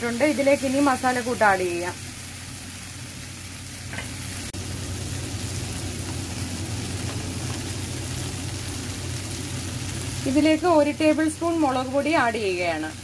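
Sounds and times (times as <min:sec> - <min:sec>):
food sizzling in a frying pan: 0:00.0 - 0:13.0
steady low hum: 0:00.1 - 0:12.6.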